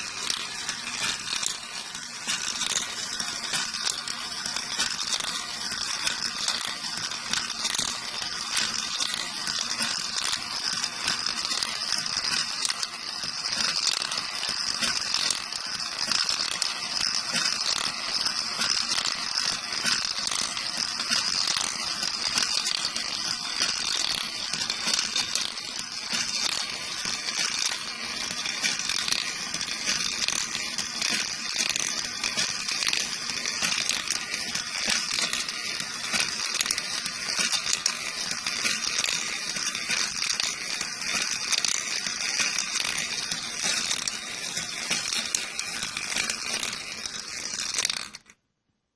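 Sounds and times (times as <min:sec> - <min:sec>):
marble machine clattering: 0:00.0 - 0:48.4.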